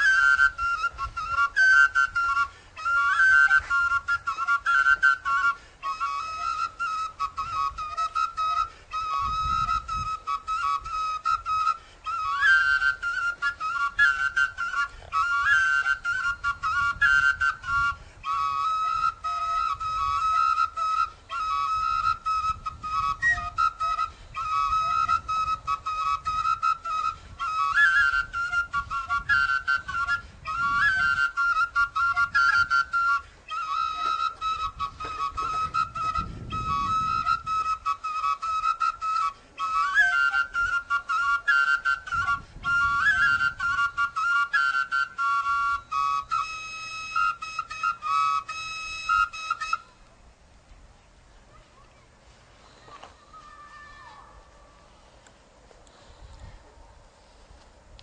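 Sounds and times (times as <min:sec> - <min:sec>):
solo flute-like instrument: 0:00.0 - 0:50.4, 0:51.4 - 0:55.3.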